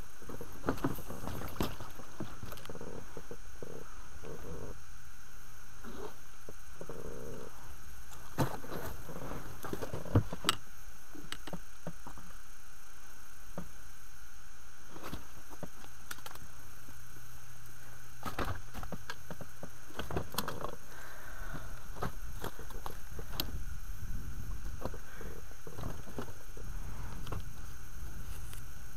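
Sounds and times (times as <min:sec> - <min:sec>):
low hum: 0:00.0 - 0:28.9
steady background hiss: 0:00.0 - 0:28.9.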